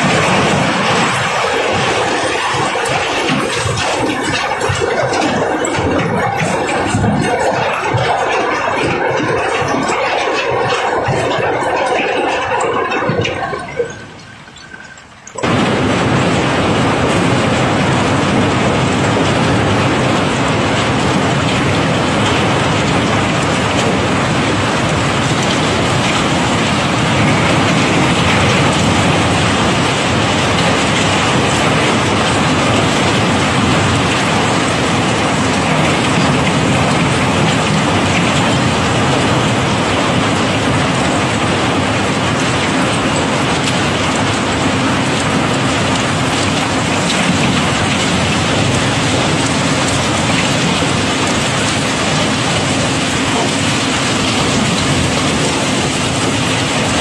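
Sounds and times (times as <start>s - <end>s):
cobblestones pouring and clattering: 0.0s - 57.0s.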